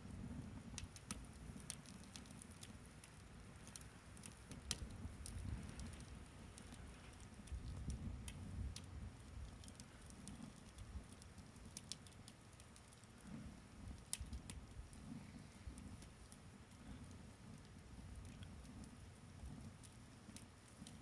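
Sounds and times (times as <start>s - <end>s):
low fire rumble: 0.0s - 21.0s
wood fire crackling: 0.0s - 21.0s.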